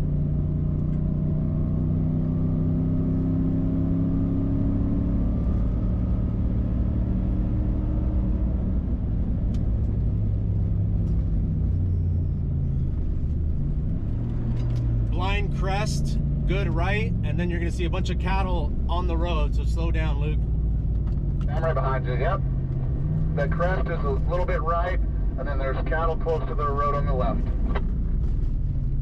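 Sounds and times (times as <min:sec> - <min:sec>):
engine cruising: 0:00.0 - 0:29.0
tyre and road rumble: 0:00.0 - 0:29.0.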